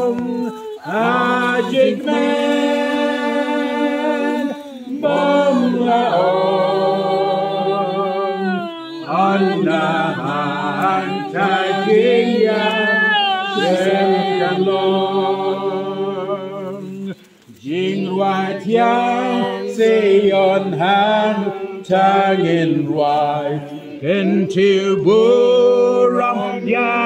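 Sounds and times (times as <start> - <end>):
group singing a hymn: 0.0 - 27.0.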